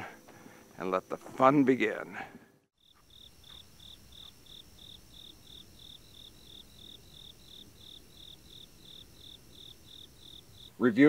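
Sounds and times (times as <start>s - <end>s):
low background hiss: 0.0s - 2.4s, 3.0s - 11.0s
cricket chirping: 0.0s - 11.0s.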